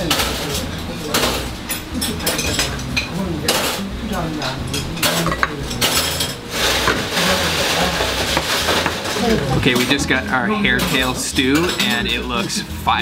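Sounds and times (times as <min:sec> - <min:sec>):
dishes and cutlery clattering: 0:00.0 - 0:12.7.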